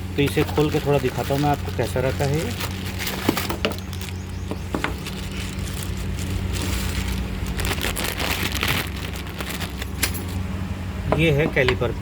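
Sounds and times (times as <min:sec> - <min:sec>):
packaging rustling: 0:00.0 - 0:10.4
steady low hum: 0:00.0 - 0:12.0.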